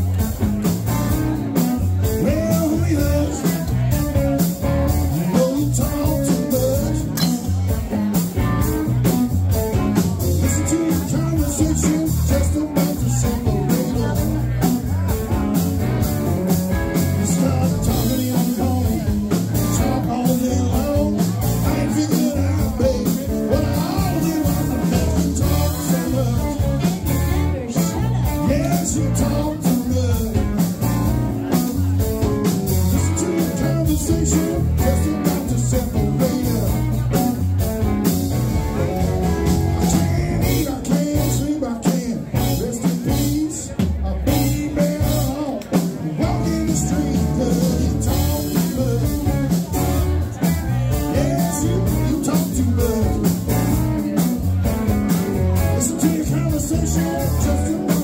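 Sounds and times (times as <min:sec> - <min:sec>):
blues-rock band playing: 0:00.0 - 0:58.0
person singing: 0:00.1 - 0:37.7, 0:38.3 - 0:58.0.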